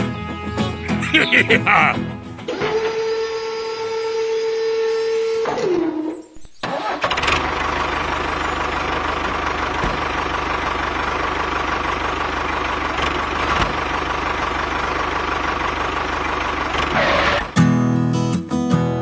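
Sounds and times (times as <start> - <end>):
tractor engine idling: 0.0 - 5.6, 6.4 - 18.3.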